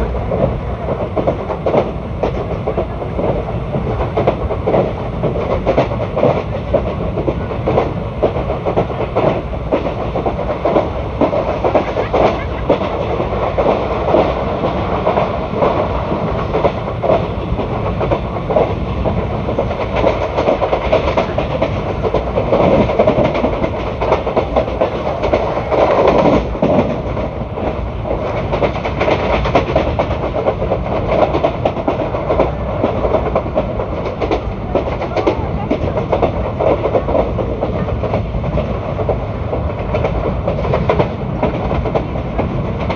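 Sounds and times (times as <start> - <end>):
clickety-clack of rail joints: 0.0 - 42.9
train wheels rumbling on rails: 0.0 - 42.9.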